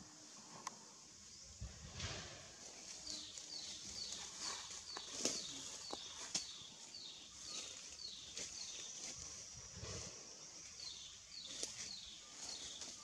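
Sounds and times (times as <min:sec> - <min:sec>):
high-pitched outdoor hiss: 0:00.0 - 0:13.0.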